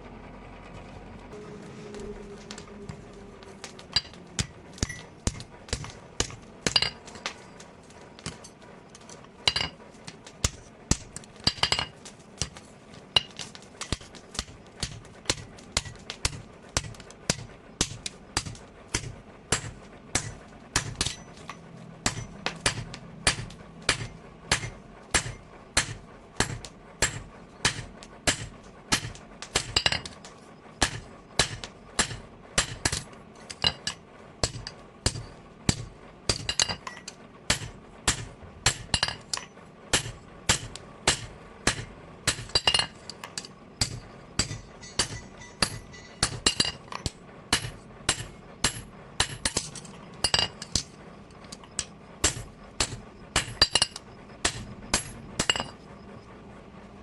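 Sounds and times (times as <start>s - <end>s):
hammer striking steel on anvil: 3.4s - 7.6s, 9.4s - 12.6s, 13.2s - 55.8s.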